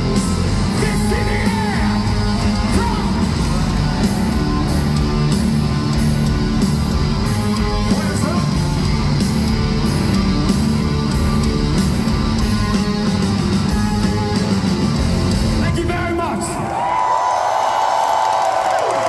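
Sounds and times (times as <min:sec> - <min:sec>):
heavy electric guitar riff: 0:00.0 - 0:15.8
bass guitar: 0:00.0 - 0:15.9
steady drum beat: 0:00.0 - 0:16.2.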